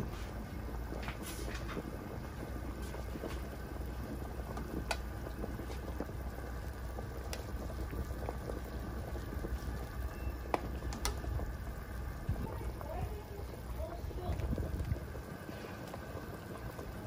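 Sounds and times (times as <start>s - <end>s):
pot boiling and bubbling: 0.0s - 17.0s.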